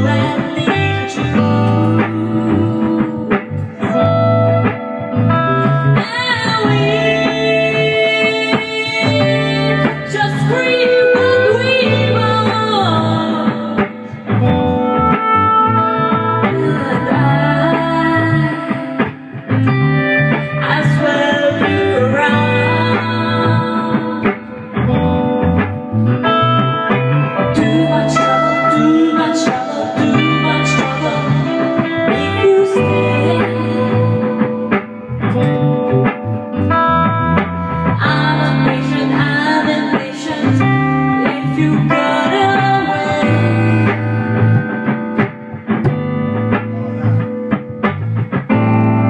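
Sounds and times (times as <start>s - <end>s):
bass guitar: 0.0s - 49.0s
electric guitar lines: 0.0s - 49.0s.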